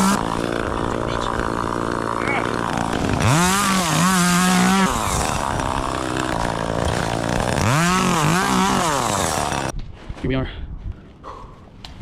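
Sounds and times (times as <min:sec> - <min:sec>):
chainsaw revving and idling: 0:00.0 - 0:09.7.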